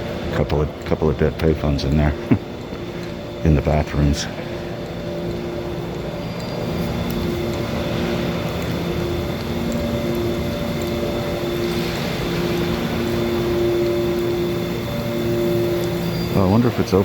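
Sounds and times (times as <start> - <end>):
mechanical drone with hiss: 0.0 - 17.0.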